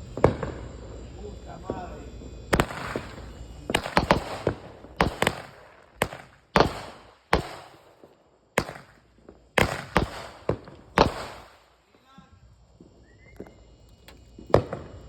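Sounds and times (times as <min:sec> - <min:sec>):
fireworks banging with echo: 0:00.0 - 0:15.0.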